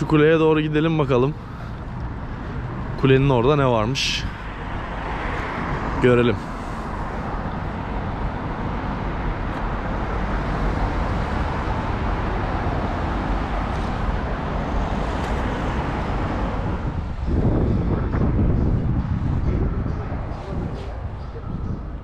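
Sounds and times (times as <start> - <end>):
rumble of passing cars: 0.0 - 22.0.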